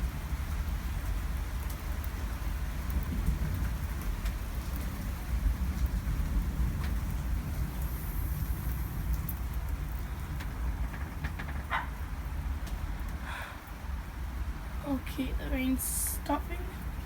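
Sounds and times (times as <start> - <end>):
heavy rain pouring: 0.0 - 17.0
raindrop ticks: 0.0 - 17.0.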